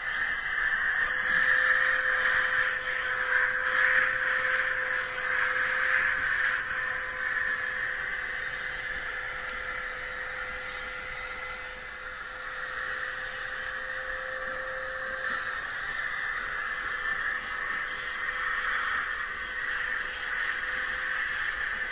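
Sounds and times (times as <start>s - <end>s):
faint steady hum: 0.0s - 21.9s
vacuum cleaner running: 0.0s - 21.9s.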